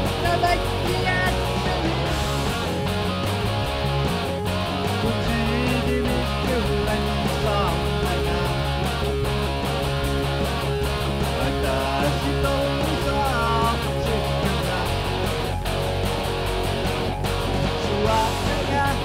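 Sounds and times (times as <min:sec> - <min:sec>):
electric guitar rock song: 0:00.0 - 0:19.0
sustained bass notes: 0:00.0 - 0:19.0.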